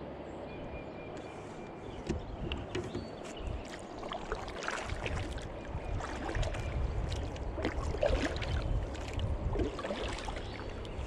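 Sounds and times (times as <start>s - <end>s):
paddle splashing water: 2.1s - 11.0s.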